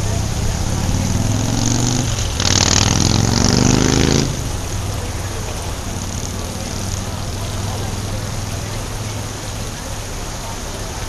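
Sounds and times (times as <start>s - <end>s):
low engine hum: 0.0s - 11.0s
rain hissing: 0.0s - 11.0s
vehicle accelerating: 0.0s - 11.0s.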